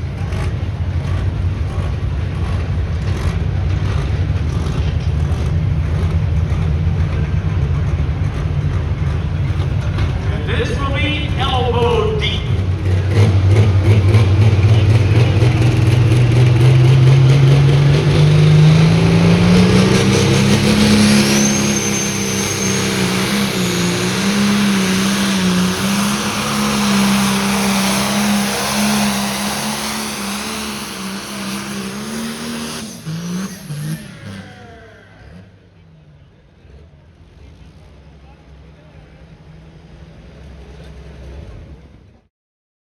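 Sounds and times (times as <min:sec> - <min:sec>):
tractor engine revving hard: 0:00.0 - 0:35.8.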